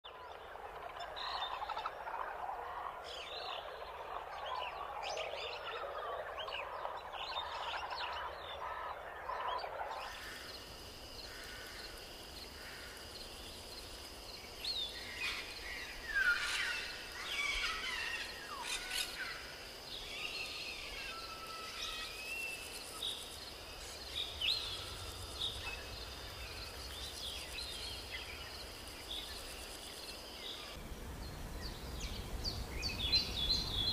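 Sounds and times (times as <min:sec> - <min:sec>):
frog chorus: 0:00.1 - 0:30.8.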